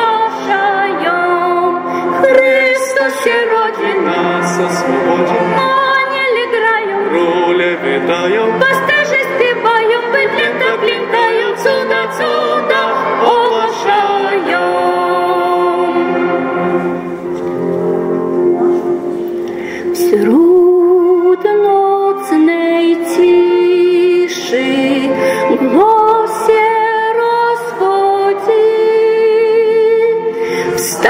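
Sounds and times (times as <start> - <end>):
woman singing with vibrato: 0.0 - 16.6, 19.9 - 31.0
string ensemble playing: 0.0 - 31.0.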